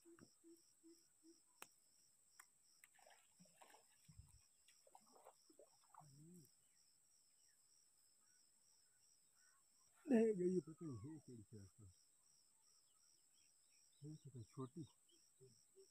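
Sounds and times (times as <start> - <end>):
insects chirping: 0.0 - 15.9.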